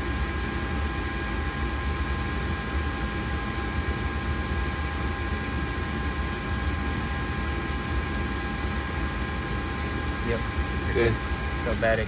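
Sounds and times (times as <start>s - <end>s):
faint steady whines: 0.0s - 12.0s
furnace motor hum and air rush: 0.0s - 12.0s.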